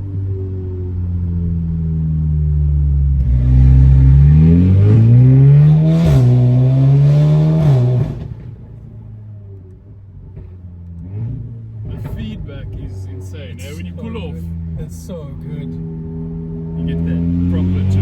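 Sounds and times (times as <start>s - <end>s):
car engine accelerating with loud exhaust: 0.0s - 18.0s.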